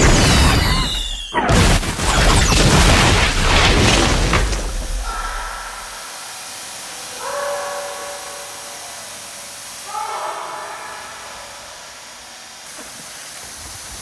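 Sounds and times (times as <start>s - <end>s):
water spraying and splashing: 0.0s - 14.0s.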